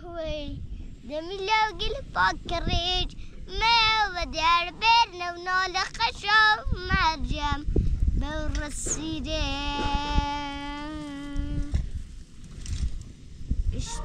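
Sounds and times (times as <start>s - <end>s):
boy singing unaccompanied: 0.0s - 11.8s.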